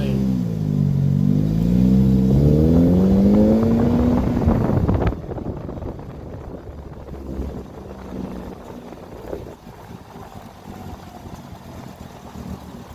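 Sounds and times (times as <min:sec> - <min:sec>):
car engine accelerating: 0:00.0 - 0:12.9
wind noise: 0:02.2 - 0:12.9.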